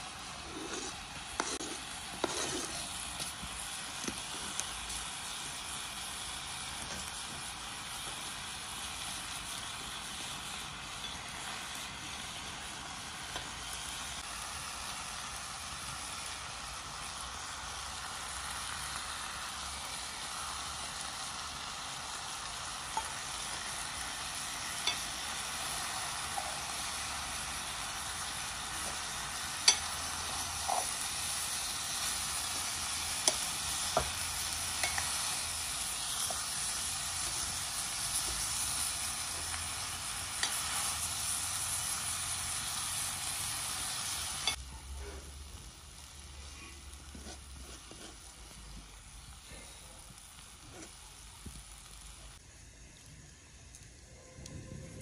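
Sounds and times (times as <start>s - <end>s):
vegetables sizzling in wok: 0.0s - 55.0s.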